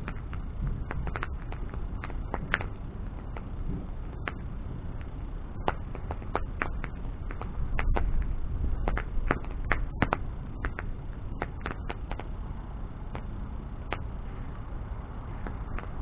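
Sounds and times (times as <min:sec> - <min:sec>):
bonfire burning with crackles: 0:00.0 - 0:16.0.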